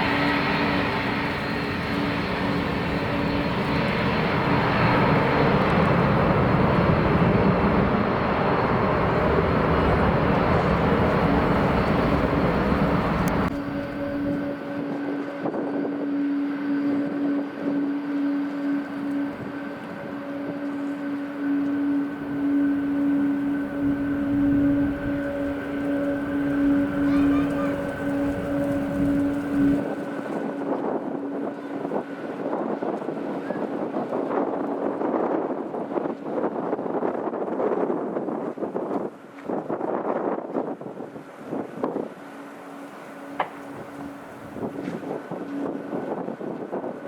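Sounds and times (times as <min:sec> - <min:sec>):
jet engine whine: 0:00.0 - 0:47.0
wind buffeting microphone: 0:00.0 - 0:47.0.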